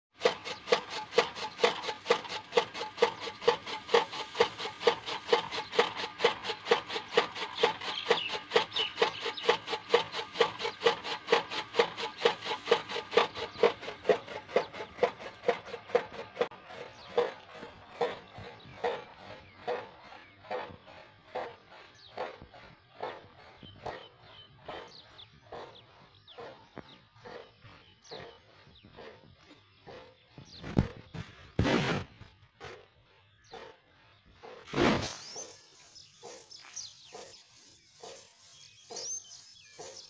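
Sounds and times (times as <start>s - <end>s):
chaff cutter chopping grass: 0.1s - 40.0s.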